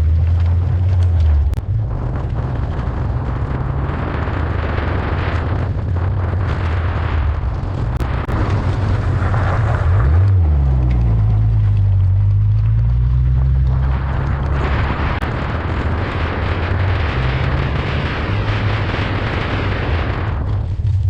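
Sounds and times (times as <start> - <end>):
car engine pulling: 0.0 - 21.0
wind rushing: 1.4 - 11.7, 12.8 - 21.0.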